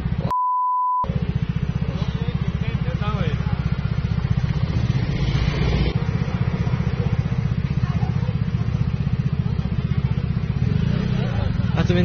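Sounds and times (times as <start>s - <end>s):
scooter engine running: 1.1s - 12.0s.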